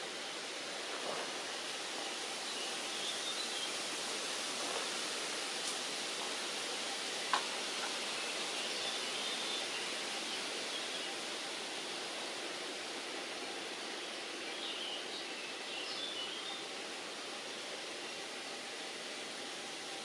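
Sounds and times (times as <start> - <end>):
outdoor ambient hiss: 0.0 - 20.0.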